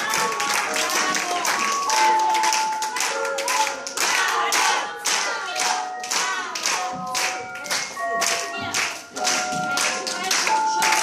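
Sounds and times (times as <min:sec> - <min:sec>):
hands clapping in beat: 0:00.0 - 0:11.0
song with melody: 0:00.0 - 0:11.0.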